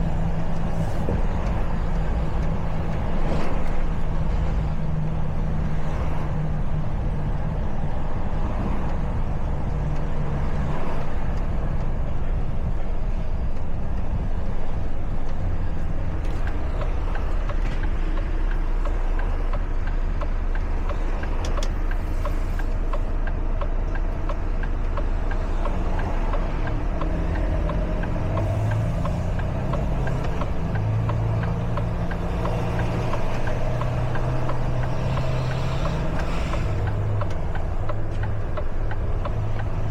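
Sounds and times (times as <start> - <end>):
truck engine running: 0.0 - 10.5, 11.2 - 39.9
road and tyre rumble: 0.0 - 39.9.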